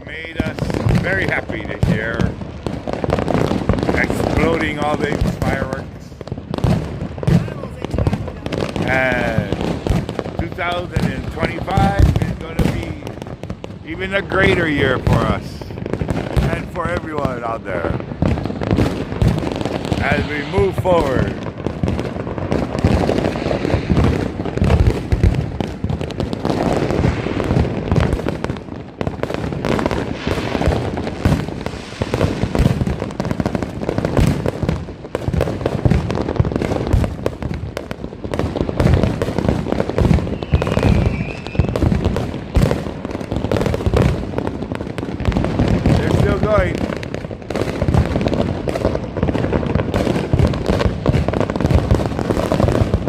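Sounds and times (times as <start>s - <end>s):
deep firework booms: 0.0s - 53.0s
firecrackers popping and banging: 0.0s - 53.0s.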